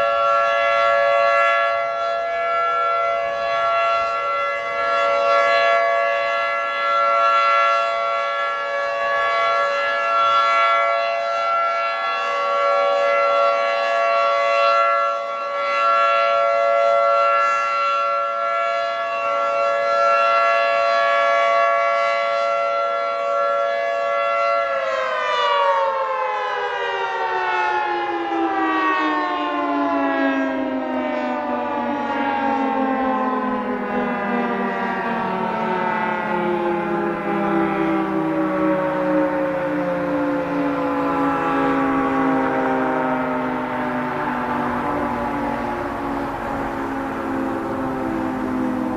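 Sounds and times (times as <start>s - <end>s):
dual-tone warning siren: 0.0s - 48.9s.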